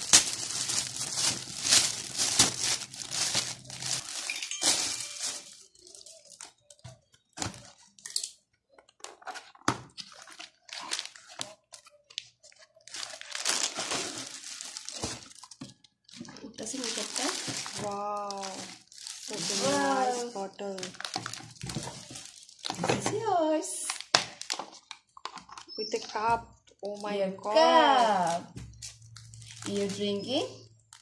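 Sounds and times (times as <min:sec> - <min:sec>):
gift wrap crinkling and tearing: 0:00.0 - 0:06.8, 0:09.1 - 0:22.9, 0:23.7 - 0:25.7, 0:26.8 - 0:31.0.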